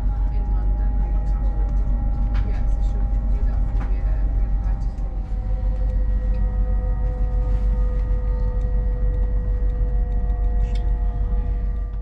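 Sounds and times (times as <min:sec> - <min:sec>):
multi-tone train whine: 0:00.0 - 0:12.0
train interior rumble: 0:00.0 - 0:12.0.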